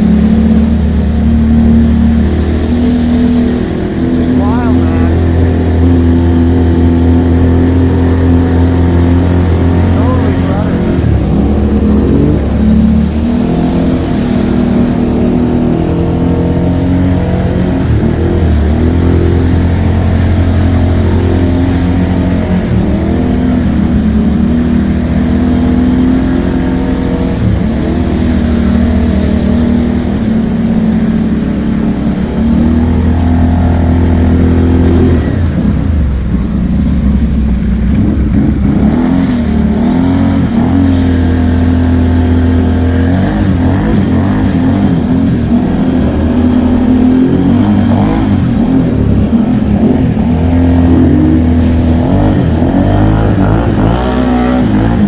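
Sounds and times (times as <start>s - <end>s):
atv engine revving: 0.0s - 55.0s
water splashing from tyres: 0.0s - 55.0s.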